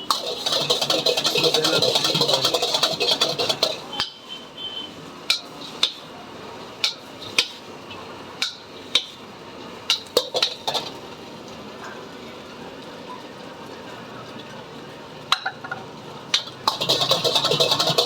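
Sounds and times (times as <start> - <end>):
loud continuous noise: 0.0 - 18.0.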